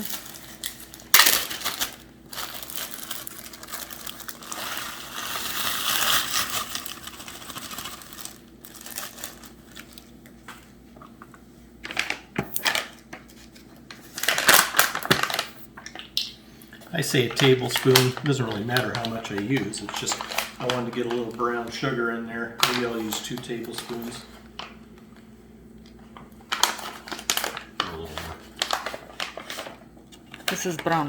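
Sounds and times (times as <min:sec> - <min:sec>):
plastic packaging crinkling: 0:00.0 - 0:10.7, 0:11.8 - 0:16.0, 0:16.9 - 0:22.0, 0:22.6 - 0:24.8, 0:26.4 - 0:30.8.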